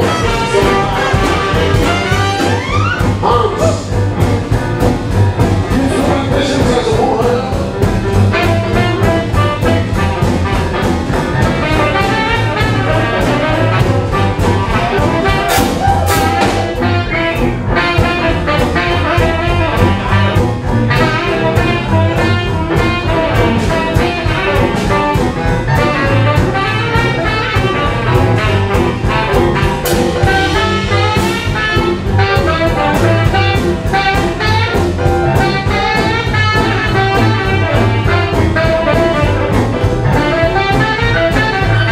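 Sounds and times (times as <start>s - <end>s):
tenor saxophone: 0.0s - 4.0s, 7.9s - 41.9s
bass line: 0.0s - 41.9s
drums: 0.0s - 41.9s.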